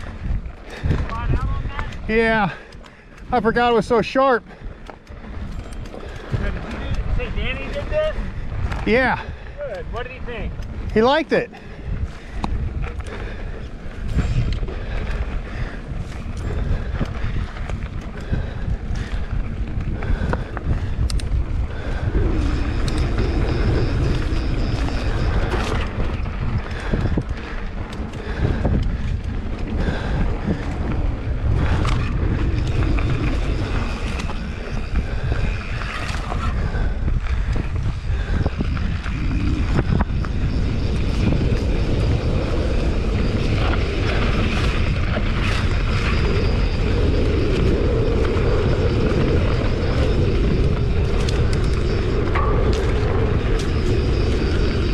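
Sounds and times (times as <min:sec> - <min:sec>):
low rumble: 0:00.0 - 0:54.9
wind buffeting microphone: 0:00.0 - 0:54.9.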